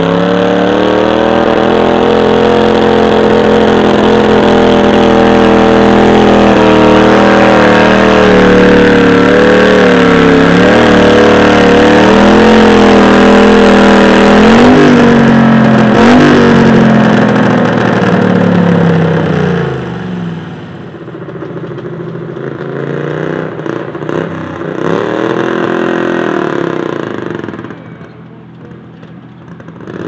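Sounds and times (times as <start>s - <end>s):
tractor engine revving: 0.0s - 30.0s.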